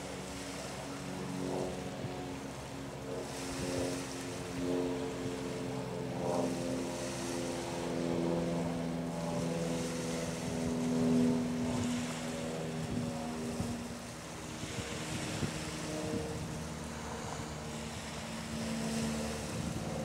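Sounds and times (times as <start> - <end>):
boat engines humming: 0.0 - 20.0
wind on microphone: 0.0 - 20.0.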